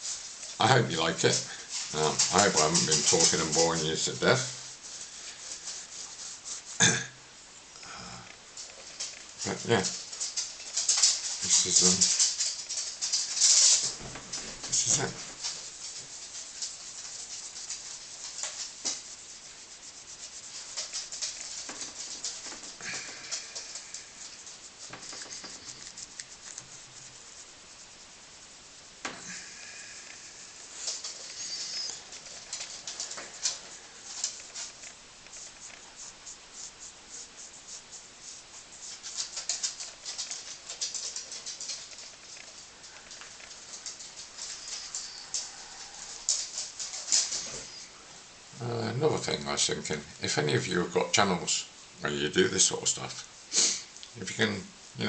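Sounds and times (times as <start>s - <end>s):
cloth rubbing metal: 0.0s - 7.1s, 8.8s - 48.0s.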